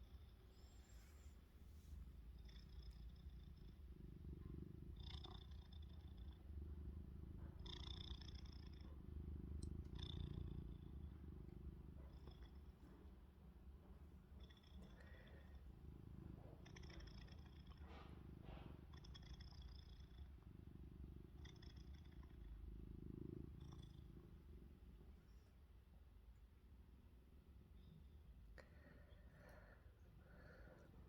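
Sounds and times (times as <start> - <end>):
cat purring: 0.0 - 26.2.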